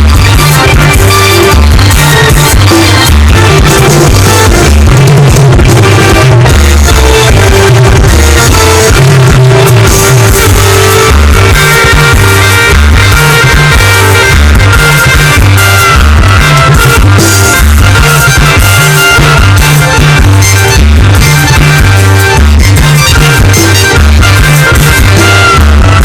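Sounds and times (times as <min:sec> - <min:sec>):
bass guitar: 0:00.0 - 0:26.0
drum kit: 0:00.0 - 0:26.0
electric guitar: 0:00.0 - 0:26.0.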